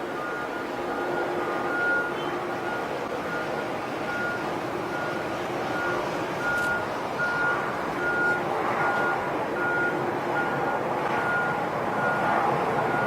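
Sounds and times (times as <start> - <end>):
engines rumbling: 0.0 - 13.0
reversing alarm beeping: 0.0 - 13.0.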